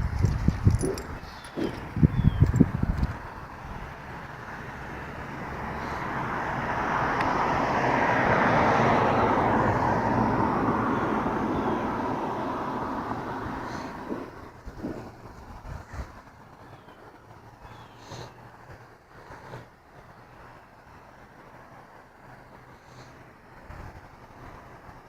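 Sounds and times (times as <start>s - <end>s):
passing vehicle engine: 0.0s - 25.0s.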